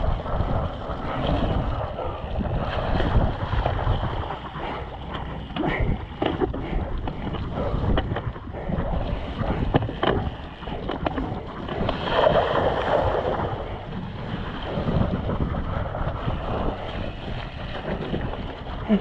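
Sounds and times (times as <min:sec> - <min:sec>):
bike rattling over rough ground: 0:00.0 - 0:19.0
wind on the microphone: 0:00.0 - 0:19.0.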